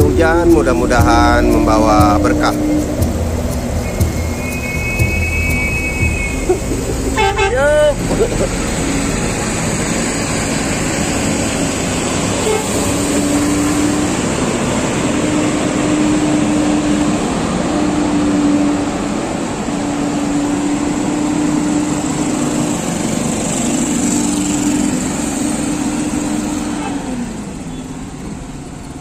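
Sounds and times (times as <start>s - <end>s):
bus pulling away: 0.0s - 29.0s
steady engine hum: 0.0s - 29.0s.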